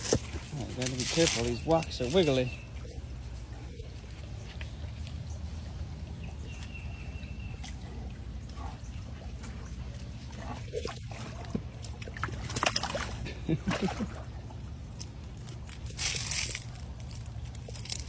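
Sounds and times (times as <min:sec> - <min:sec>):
water trickling over stones: 0:00.0 - 0:13.6, 0:14.4 - 0:18.0
animal lapping water: 0:00.0 - 0:18.0.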